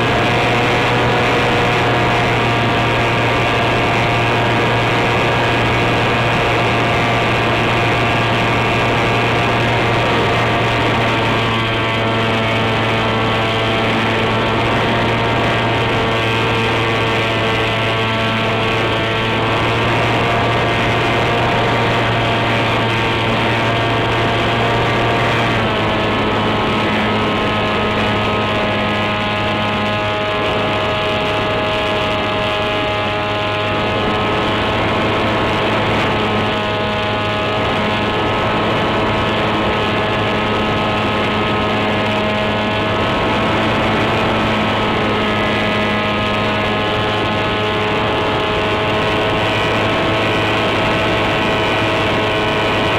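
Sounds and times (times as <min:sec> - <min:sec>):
electric motor propeller whine: 0:00.0 - 0:52.9.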